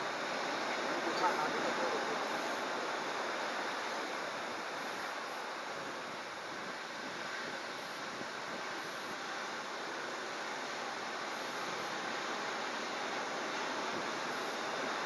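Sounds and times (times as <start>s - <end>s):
heavy surf: 0.0s - 15.0s.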